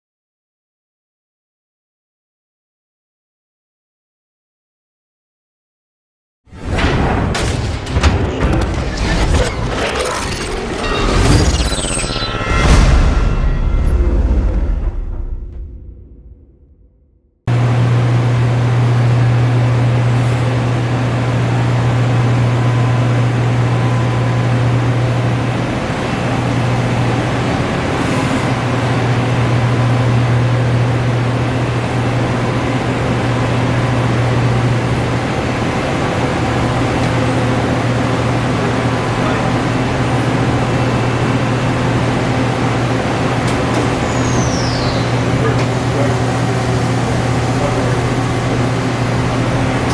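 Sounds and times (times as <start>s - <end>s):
machining center humming: 6.6s - 16.4s, 17.5s - 49.9s.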